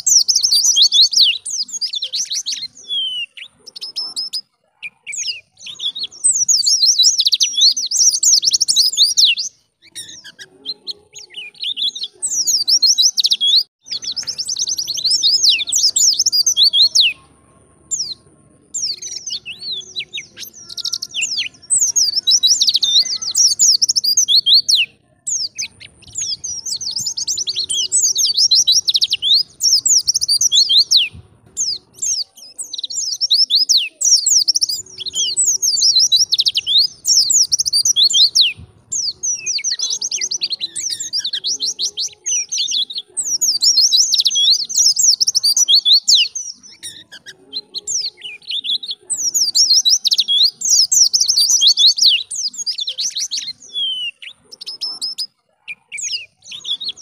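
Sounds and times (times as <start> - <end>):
bird high twittering song: 0.0 - 57.0.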